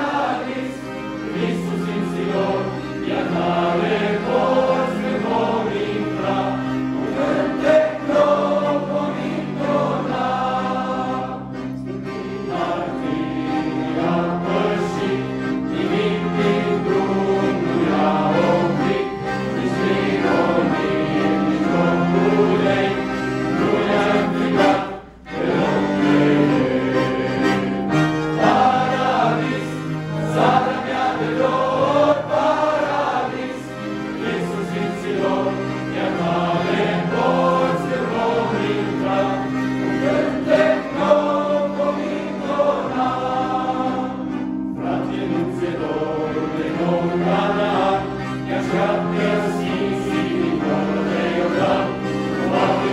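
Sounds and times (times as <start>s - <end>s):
accordions playing chords: 0.0s - 52.9s
men's choir singing a hymn: 0.0s - 52.9s.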